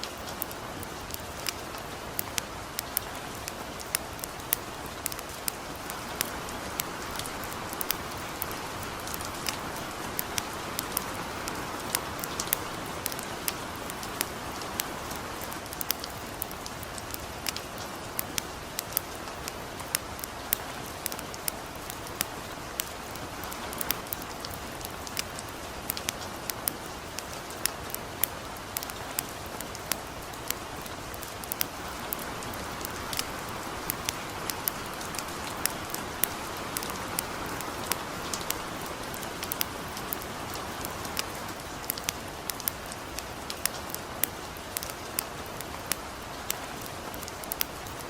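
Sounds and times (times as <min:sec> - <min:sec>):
campfire crackling: 0:00.0 - 0:48.0
light rain patter: 0:00.0 - 0:48.0.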